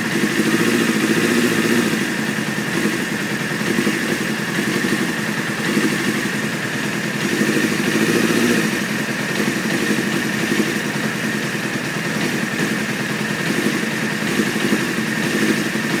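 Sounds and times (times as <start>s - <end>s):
motorcycle engine idling roughly: 0.0s - 16.0s.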